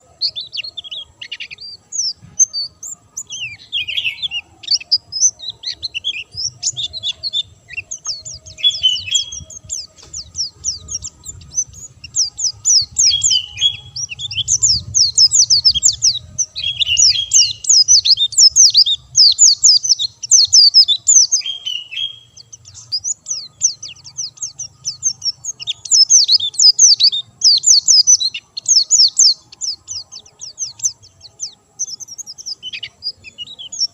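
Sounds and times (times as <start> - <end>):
bird twittering: 0.0 - 33.9.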